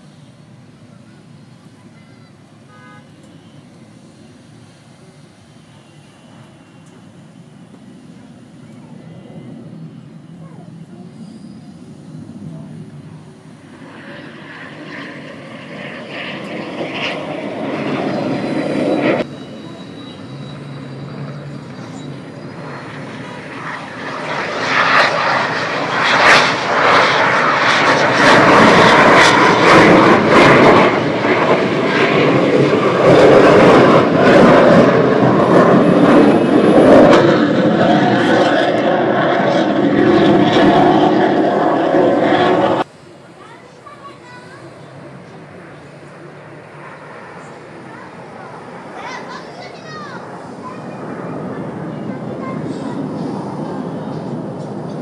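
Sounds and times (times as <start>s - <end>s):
aircraft engine flying past: 0.0s - 55.0s.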